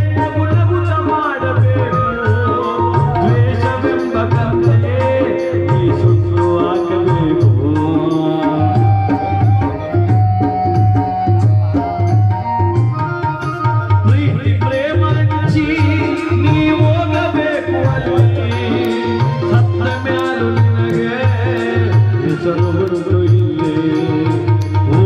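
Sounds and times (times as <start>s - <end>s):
held melodic notes: 0.0s - 24.8s
tabla beat: 0.0s - 25.0s.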